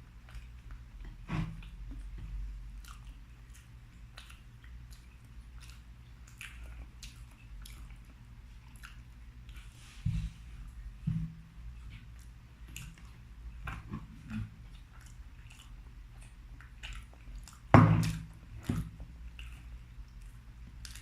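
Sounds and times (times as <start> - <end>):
close-miked chewing: 0.0 - 9.9, 11.7 - 21.0.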